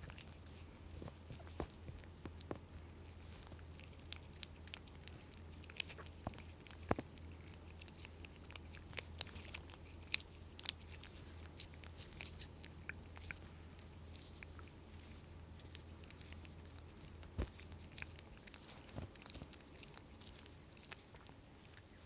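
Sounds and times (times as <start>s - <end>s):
cat crunching food: 0.0s - 22.0s.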